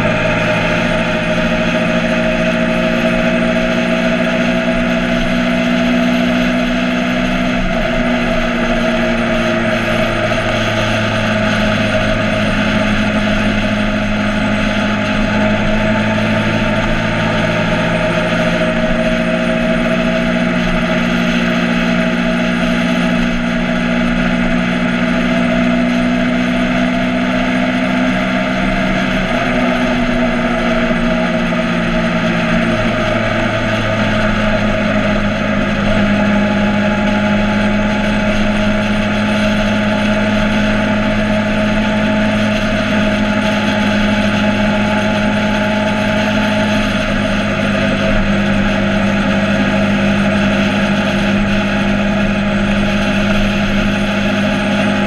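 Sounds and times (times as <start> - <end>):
motorcycle engine running: 0.0 - 55.0
steady rushing noise: 0.0 - 55.0.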